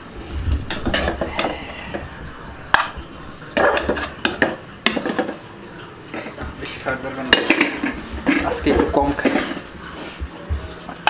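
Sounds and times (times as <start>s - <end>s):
metal spoon scraping a pot: 0.2s - 5.4s, 6.1s - 10.2s.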